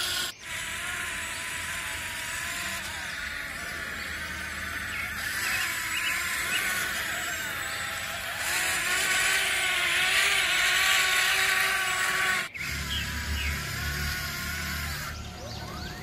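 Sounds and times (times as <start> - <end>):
toy electric motor whining: 0.0 - 16.0.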